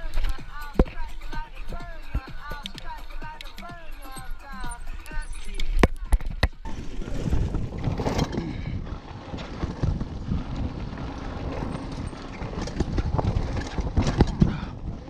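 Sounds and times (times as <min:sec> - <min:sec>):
mountain bike rattling on trail: 0:00.0 - 0:15.0.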